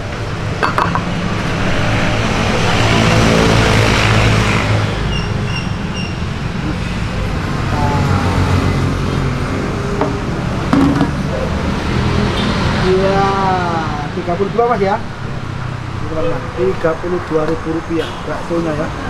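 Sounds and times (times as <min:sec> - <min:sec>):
road traffic rumbling: 0:00.0 - 0:19.0.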